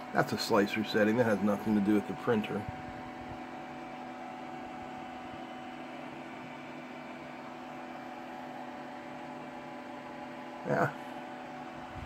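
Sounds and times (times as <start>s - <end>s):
printer fans humming: 0.0s - 12.0s.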